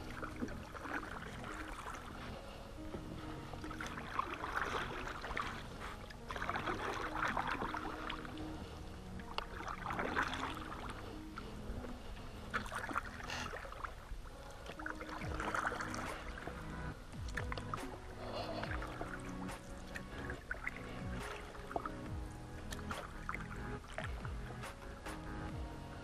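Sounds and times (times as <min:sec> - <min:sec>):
oars splashing in water: 0:00.0 - 0:26.0.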